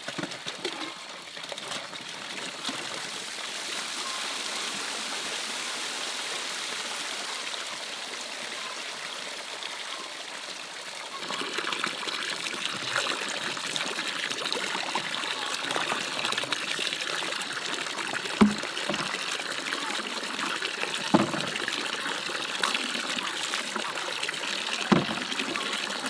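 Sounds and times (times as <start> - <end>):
water running and trickling: 0.1 - 26.0.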